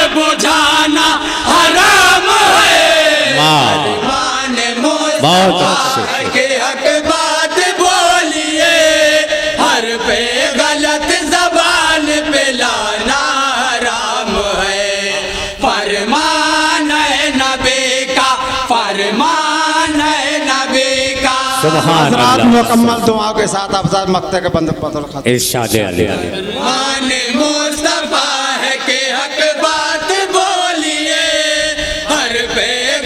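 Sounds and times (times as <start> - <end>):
men singing together: 0.0 - 23.0, 26.3 - 33.0.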